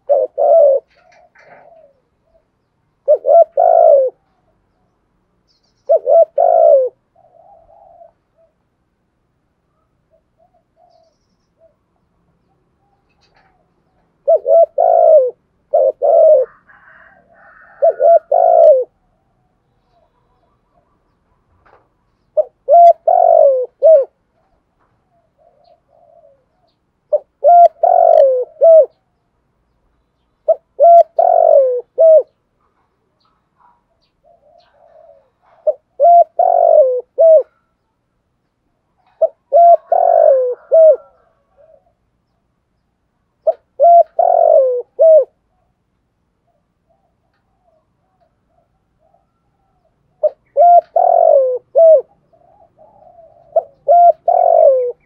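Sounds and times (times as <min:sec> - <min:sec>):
dove cooing: 0:00.0 - 0:04.8, 0:05.8 - 0:08.8, 0:09.7 - 0:29.2, 0:30.4 - 0:38.0, 0:38.8 - 0:42.4, 0:43.3 - 0:55.0.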